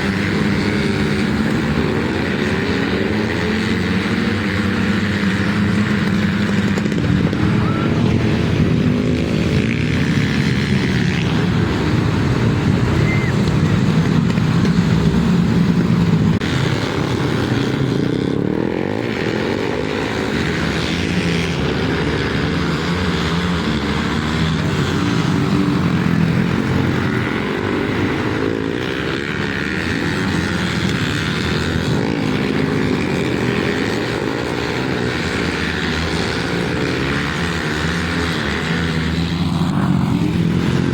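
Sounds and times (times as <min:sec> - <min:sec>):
racing motorcycle engines: 0:00.0 - 0:40.9.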